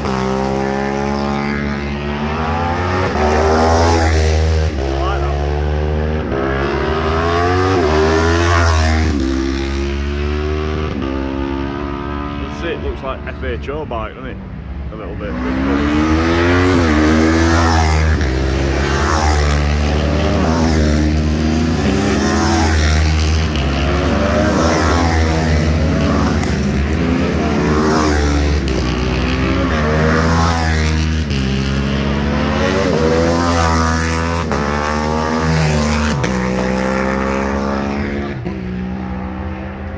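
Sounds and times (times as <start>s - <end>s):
racing motorcycles passing by: 0.0s - 39.9s.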